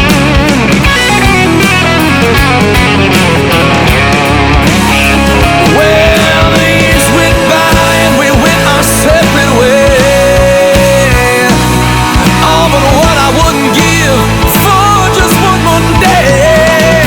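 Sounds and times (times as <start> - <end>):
guitar: 0.0 - 17.0
steady drum beat: 0.0 - 17.0.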